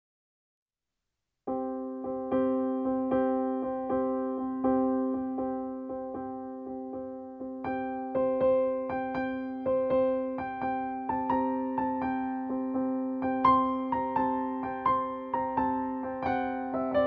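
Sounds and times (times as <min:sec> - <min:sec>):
piano repeated notes: 0:01.5 - 0:17.0.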